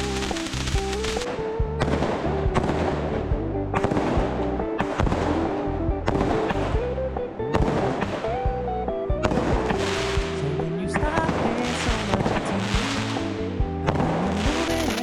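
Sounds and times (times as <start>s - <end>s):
fireworks banging and crackling: 0.0s - 6.9s, 7.6s - 8.5s, 9.2s - 15.0s
pop song: 0.0s - 7.2s, 9.4s - 15.0s.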